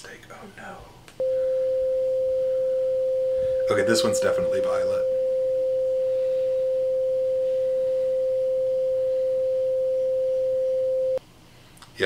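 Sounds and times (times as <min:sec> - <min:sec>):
electronic sine tone: 0:01.2 - 0:11.2.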